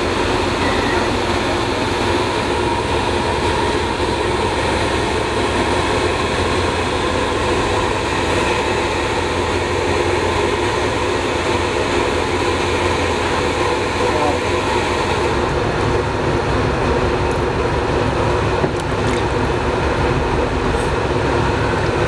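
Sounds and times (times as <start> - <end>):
loud mechanical drone: 0.0 - 22.0.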